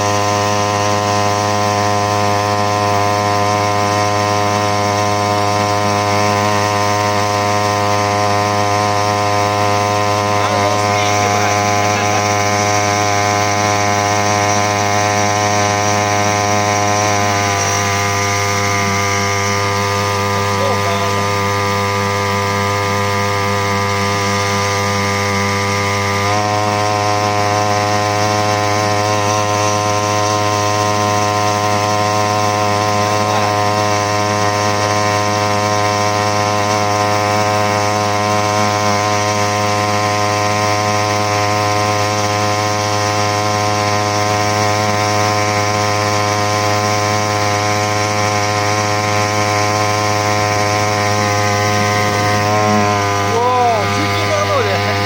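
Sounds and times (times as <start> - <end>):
small outboard motor running: 0.0 - 55.0.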